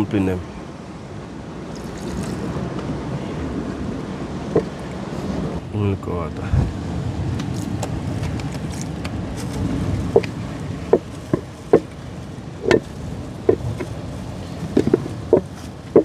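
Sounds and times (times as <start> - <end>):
sea: 0.0 - 16.0
wind: 0.0 - 16.0.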